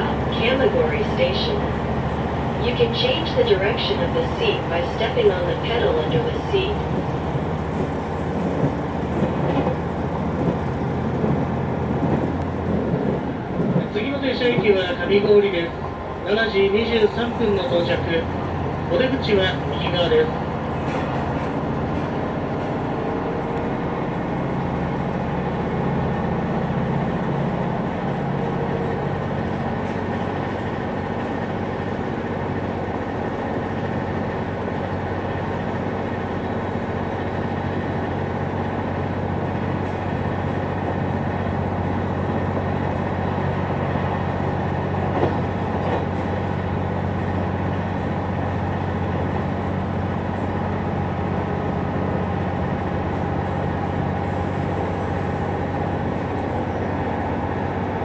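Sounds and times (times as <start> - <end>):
diesel engine drone: 0.0 - 58.0
wheels on rail: 0.0 - 58.0.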